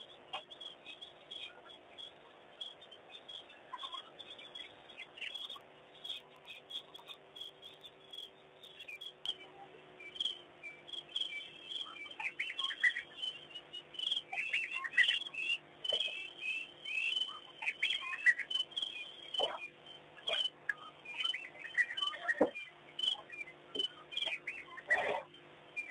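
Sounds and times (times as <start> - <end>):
birds chirping and calling: 0.0 - 25.9.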